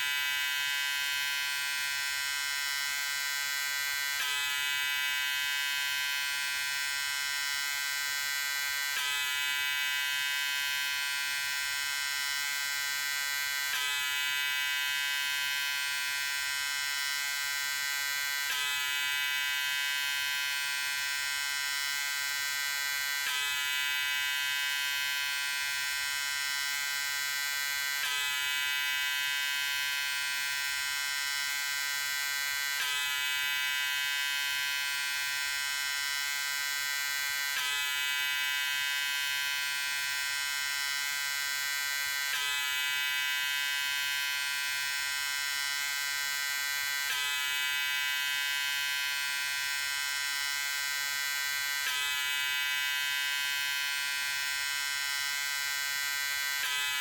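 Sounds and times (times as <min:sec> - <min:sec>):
electric shaver buzzing: 0:00.0 - 0:57.0.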